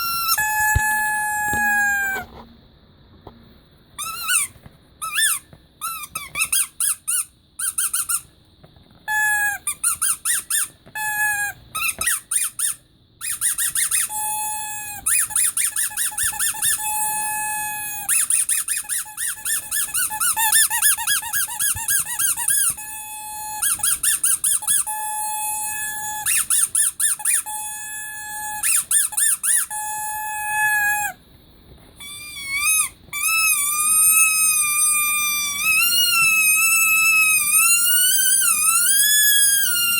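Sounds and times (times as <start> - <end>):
rubber squeaky toy squeaking: 0.0 - 2.4, 4.0 - 8.3, 9.0 - 31.2, 32.0 - 39.9.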